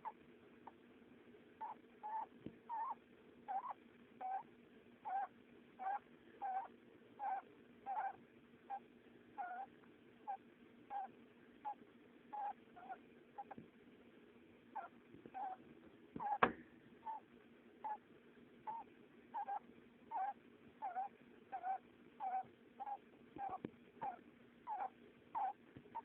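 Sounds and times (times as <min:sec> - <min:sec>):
hamster snoring: 0:00.0 - 0:00.8, 0:01.6 - 0:13.6, 0:14.7 - 0:15.6, 0:16.2 - 0:16.4, 0:17.0 - 0:26.0
faint steady hum: 0:00.0 - 0:26.0.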